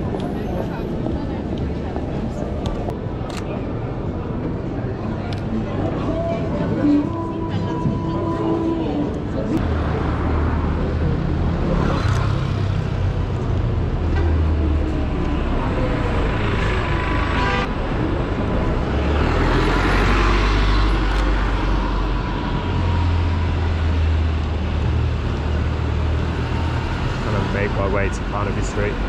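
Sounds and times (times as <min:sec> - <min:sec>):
traffic engines rumbling: 0:00.0 - 0:29.0.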